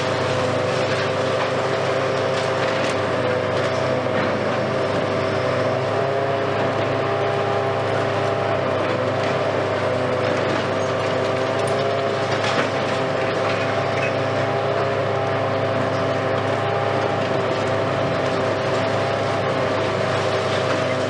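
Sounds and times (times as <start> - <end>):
excavator engine and hydraulics hum: 0.0 - 21.0.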